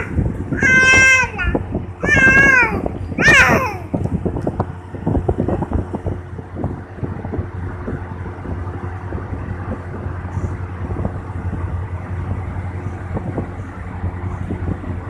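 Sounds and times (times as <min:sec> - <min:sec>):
low hum and rumbling: 0:00.0 - 0:15.0.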